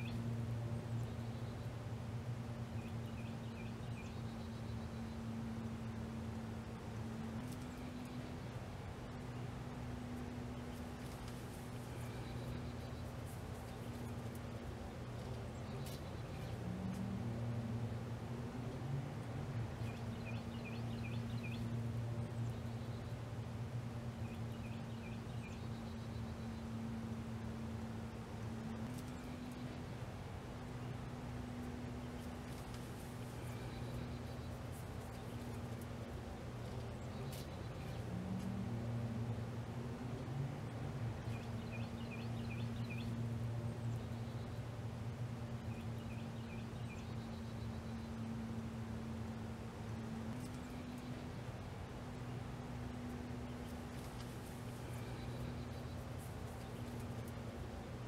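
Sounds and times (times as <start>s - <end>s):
bird chirping: 0.0s - 1.9s, 2.6s - 17.0s, 19.7s - 23.4s, 24.0s - 30.0s, 30.6s - 38.5s, 41.1s - 44.8s, 45.5s - 51.4s, 52.3s - 57.8s
low mechanical hum: 0.0s - 58.0s.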